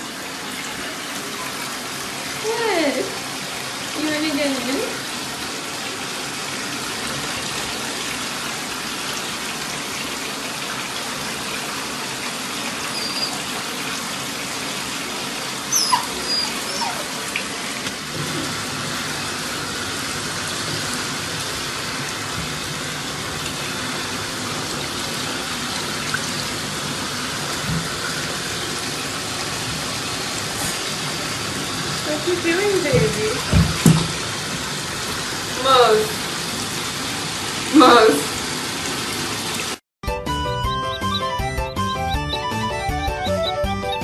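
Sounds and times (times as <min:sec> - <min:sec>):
water running from a tap: 0:00.0 - 0:39.8.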